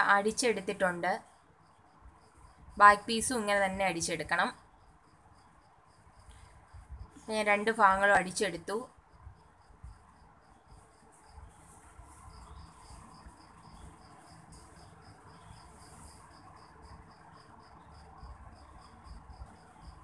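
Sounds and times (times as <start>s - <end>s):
insect chirping: 0.0s - 20.0s.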